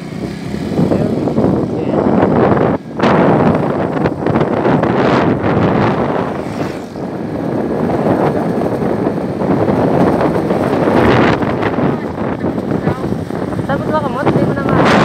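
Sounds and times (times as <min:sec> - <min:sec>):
motor scooter running: 0:00.0 - 0:15.0
road noise: 0:00.0 - 0:15.0
wind buffeting microphone: 0:00.0 - 0:15.0.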